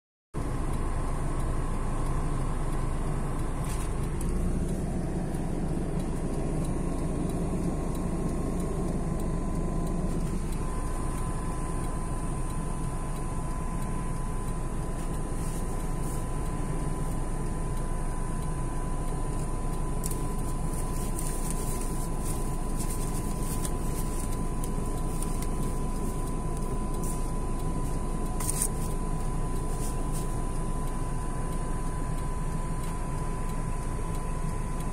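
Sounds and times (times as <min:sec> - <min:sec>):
car engine cabin rumble: 0:00.4 - 0:34.9.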